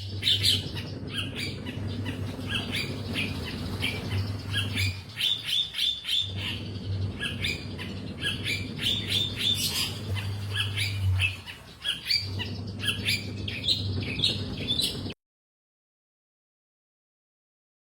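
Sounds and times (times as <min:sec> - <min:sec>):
bird singing scratchy notes: 0:00.0 - 0:15.2
low hum: 0:00.0 - 0:15.2.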